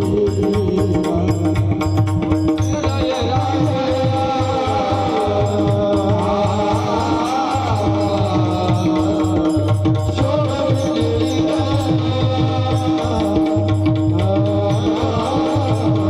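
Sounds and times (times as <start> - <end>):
drum rhythm: 0.0 - 16.0
person singing: 0.0 - 16.0.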